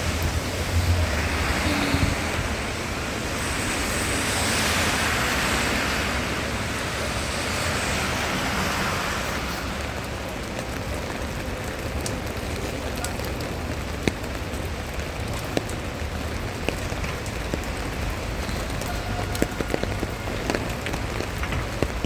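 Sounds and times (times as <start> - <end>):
car tyres hissing on wet road: 0.0 - 22.0
rain hissing: 0.0 - 22.0.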